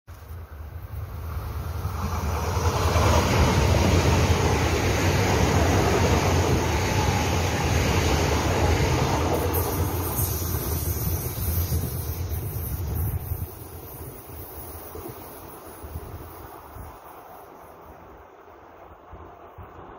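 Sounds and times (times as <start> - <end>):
train passing on rails: 0.1 - 19.9.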